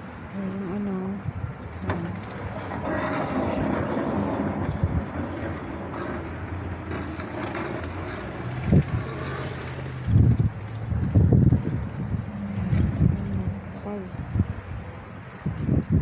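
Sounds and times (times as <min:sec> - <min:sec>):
vehicle engine rumbling: 0:00.0 - 0:16.0
wind blowing: 0:00.0 - 0:16.0.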